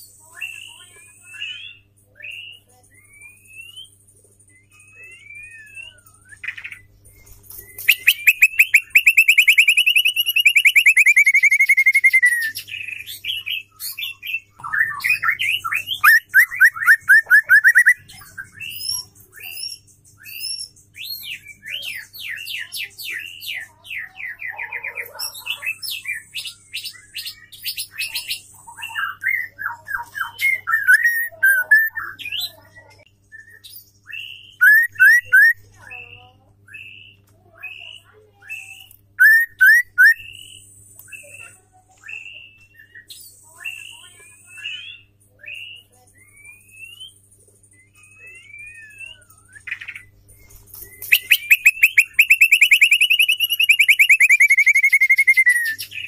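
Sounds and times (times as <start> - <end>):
bird singing trills and chatter: 0.0 - 56.0.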